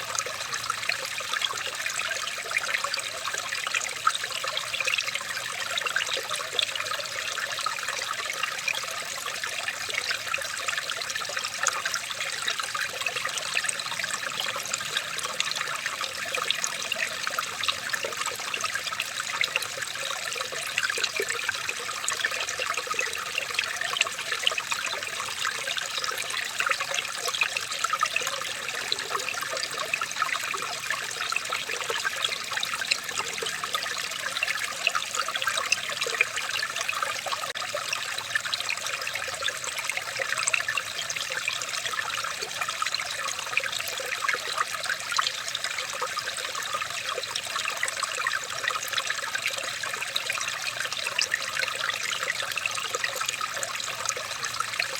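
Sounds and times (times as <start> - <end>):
water trickling and babbling: 0.0 - 54.9.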